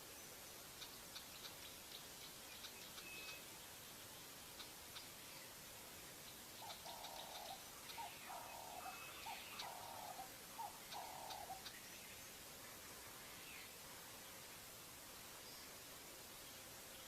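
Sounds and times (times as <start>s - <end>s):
light hiss: 0.0s - 17.0s.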